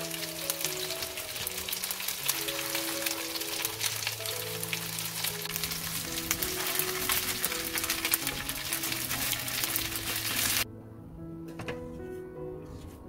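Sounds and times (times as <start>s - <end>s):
meat sizzling in a frying pan: 0.0s - 10.6s
background music of held notes: 0.0s - 13.0s.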